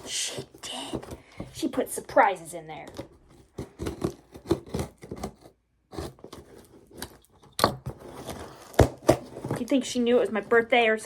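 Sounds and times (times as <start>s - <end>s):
clicks and scrapes: 0.0s - 10.6s
paper and packaging rustling: 0.0s - 11.0s.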